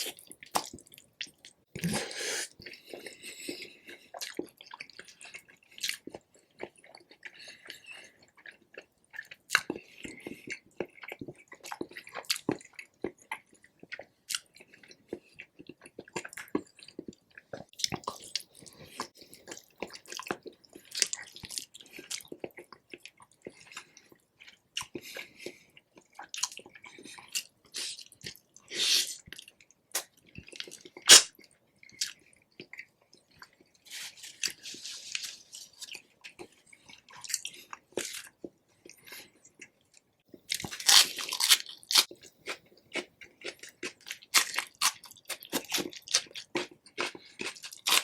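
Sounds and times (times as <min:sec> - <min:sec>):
chewing and biting food: 0:00.0 - 0:48.0.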